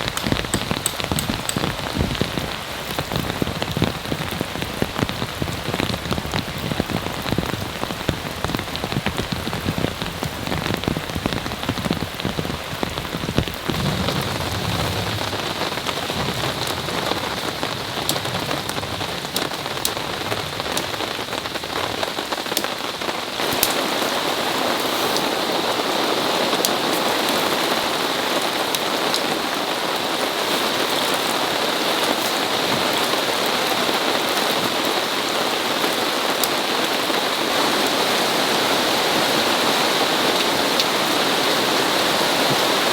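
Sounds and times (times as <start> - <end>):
downpour hiss: 0.0 - 42.9
rain pattering on a tarp: 0.0 - 42.9.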